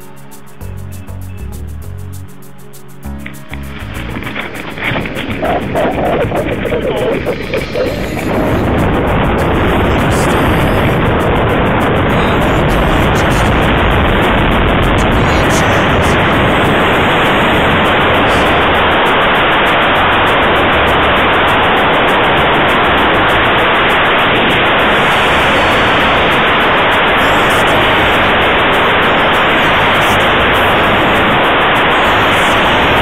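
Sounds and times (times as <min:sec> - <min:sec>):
wind rushing over microphone: 0:03.5 - 0:33.0.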